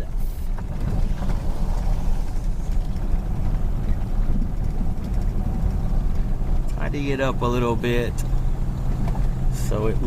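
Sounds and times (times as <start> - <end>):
car engine rumble: 0.0 - 10.0
tyres on road: 0.0 - 10.0.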